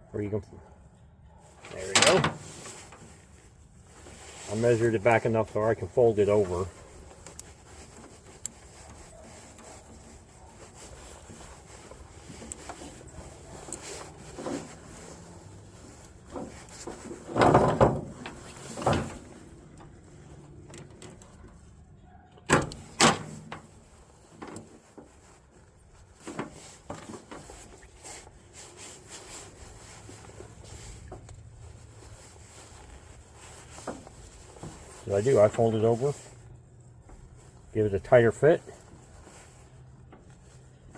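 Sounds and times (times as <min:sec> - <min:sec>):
cable handling rustling and knocks: 0:01.5 - 0:21.8, 0:22.4 - 0:40.9.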